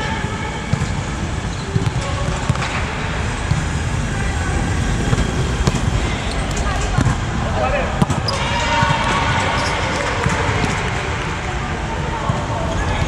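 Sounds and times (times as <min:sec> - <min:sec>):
low rumble in large hall: 0:00.0 - 0:13.0
players' voices: 0:00.0 - 0:13.0
volleyball ball contacts: 0:00.0 - 0:13.0.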